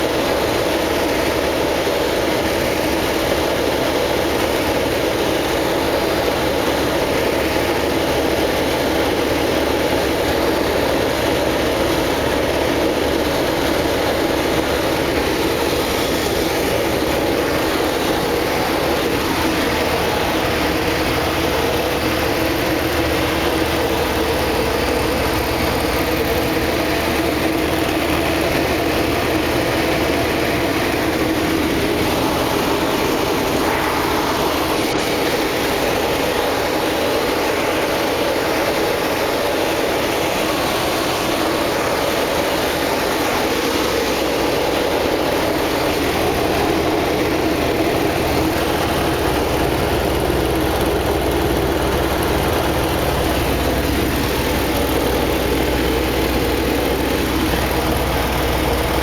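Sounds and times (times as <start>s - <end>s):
engine drone: 0.0s - 59.0s.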